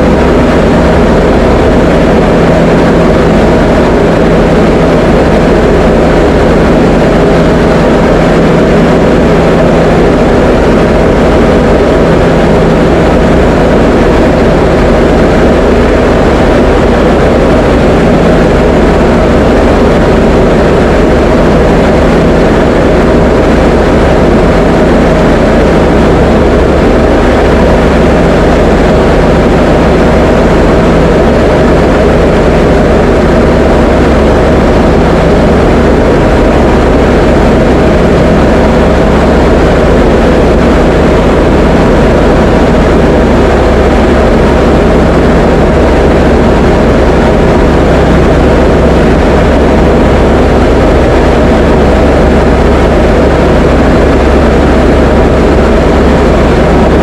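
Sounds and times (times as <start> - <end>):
aircraft engine drone in cockpit: 0.0 - 57.0.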